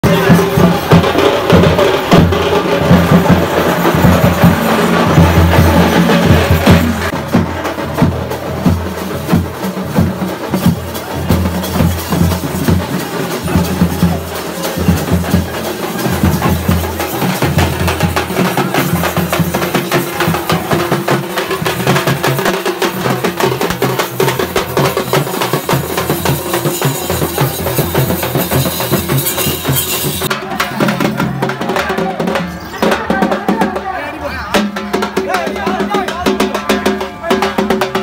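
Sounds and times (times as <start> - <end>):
fast busy drumming: 0.0 - 38.0.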